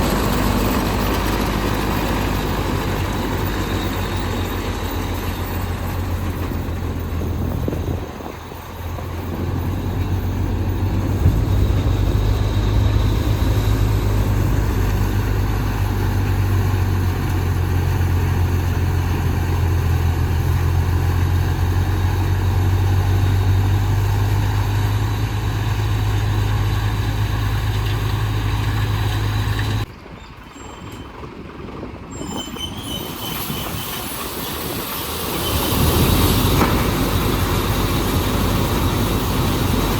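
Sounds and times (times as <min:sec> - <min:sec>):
tractor diesel engine running: 0:00.0 - 0:32.5, 0:34.0 - 0:39.9.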